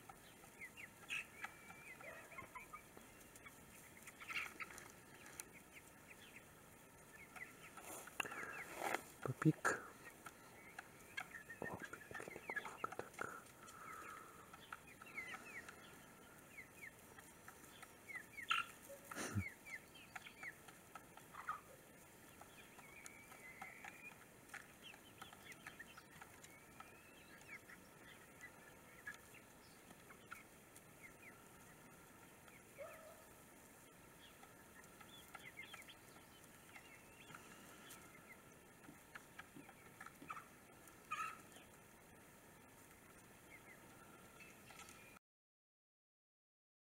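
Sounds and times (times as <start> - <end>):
young chickens peeping and clucking: 0.0 - 45.2.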